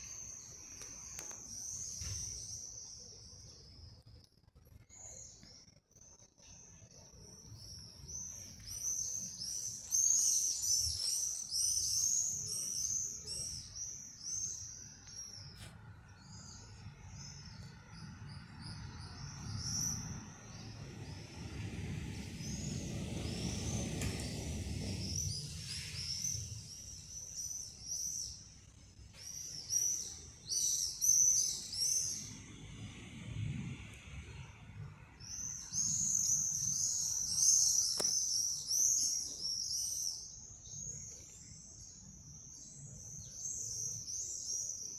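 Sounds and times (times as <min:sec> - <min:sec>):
songbirds chirping and singing: 0:00.0 - 0:21.3, 0:22.4 - 0:32.6, 0:35.1 - 0:44.9.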